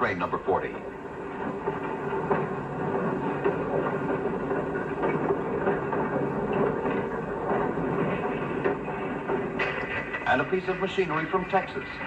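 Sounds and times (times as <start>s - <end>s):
freight car wheels rolling on rail: 0.0s - 12.0s.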